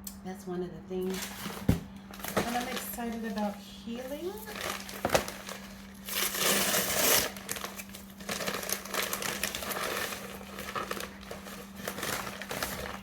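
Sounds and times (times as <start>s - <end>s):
steady low hum: 0.0s - 13.0s
packaging crinkling: 1.1s - 13.0s
packaging rustling and clicking: 1.1s - 13.0s.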